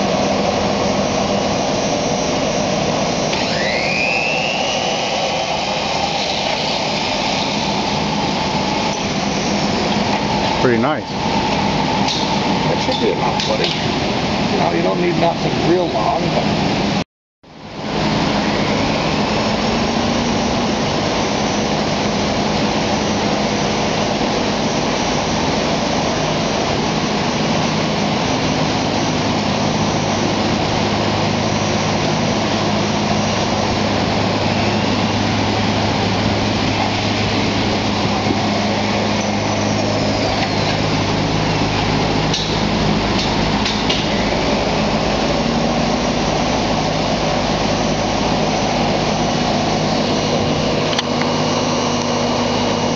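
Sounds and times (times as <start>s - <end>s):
machine motor and rollers humming: 0.0s - 17.0s, 17.6s - 52.9s.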